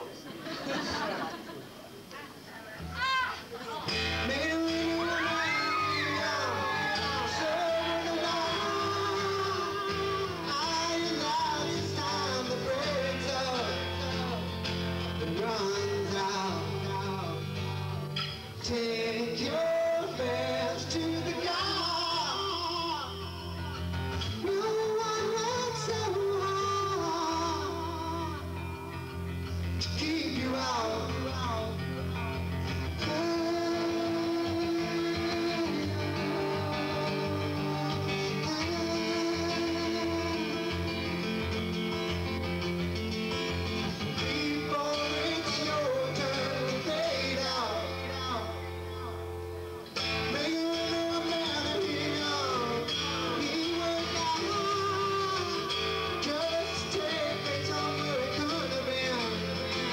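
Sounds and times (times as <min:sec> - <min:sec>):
strummed acoustic guitar: 0:03.5 - 0:59.9
man singing: 0:03.8 - 0:29.1, 0:29.7 - 0:42.0, 0:43.6 - 0:49.4, 0:50.0 - 0:59.9.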